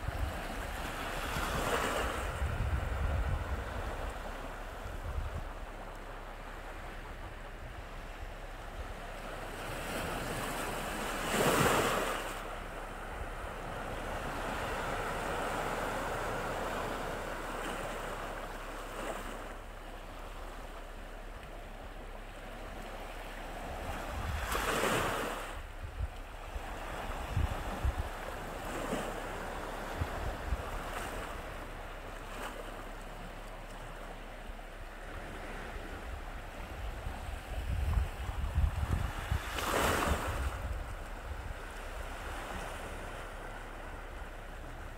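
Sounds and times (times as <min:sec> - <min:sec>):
sea waves washing ashore: 0:00.0 - 0:44.9
wind buffeting microphone: 0:00.0 - 0:44.9.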